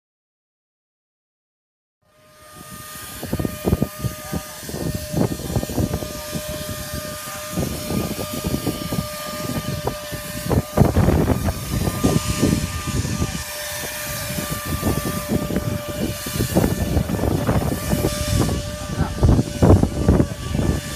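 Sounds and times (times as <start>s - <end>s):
spray rig whine: 2.1s - 20.9s
low rumbling: 2.3s - 20.9s.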